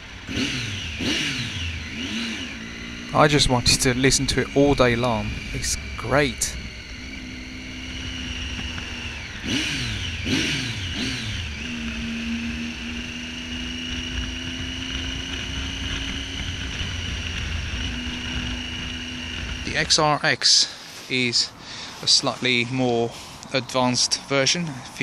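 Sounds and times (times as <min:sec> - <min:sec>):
motorcycle engine while riding: 0:00.0 - 0:25.0.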